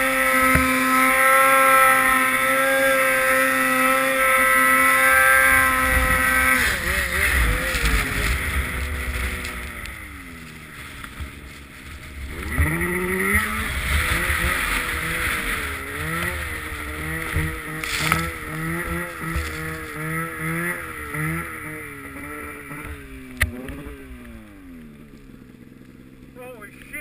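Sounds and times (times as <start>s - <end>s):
rushing hiss of snow and wind: 0.0s - 23.3s
snowmobile engine revving: 0.0s - 27.0s.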